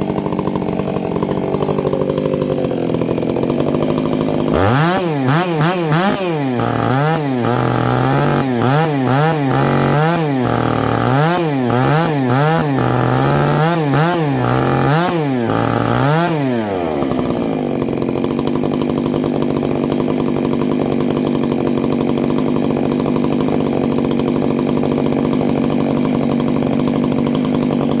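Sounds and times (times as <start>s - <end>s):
chainsaw revving and idling: 0.0s - 28.0s.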